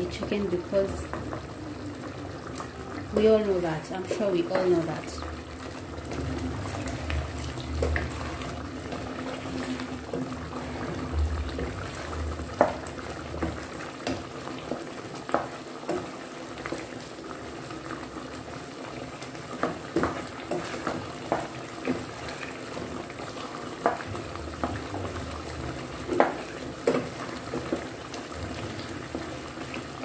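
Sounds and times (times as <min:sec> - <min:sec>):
sauce simmering and bubbling: 0:00.0 - 0:30.0
wooden spoon stirring: 0:02.1 - 0:30.0.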